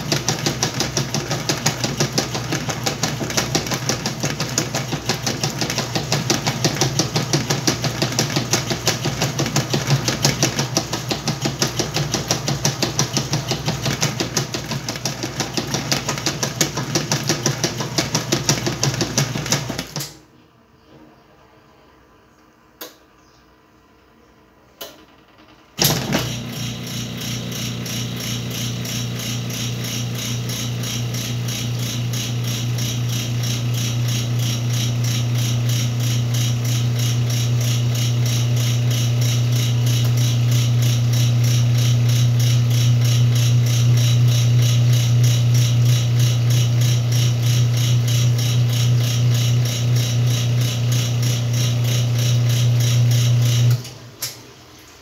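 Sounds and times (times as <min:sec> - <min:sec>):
washing machine motor humming: 0:00.0 - 0:20.0, 0:25.8 - 0:55.0.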